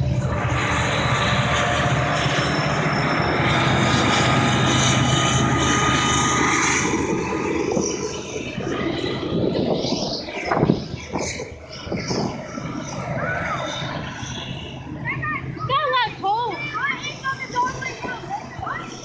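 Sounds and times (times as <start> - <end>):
high whining tones: 0.0 - 19.0.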